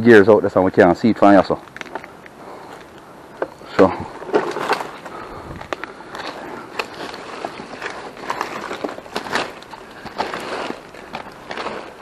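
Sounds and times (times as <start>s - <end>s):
dry leaves and twigs crackling: 1.2s - 12.0s.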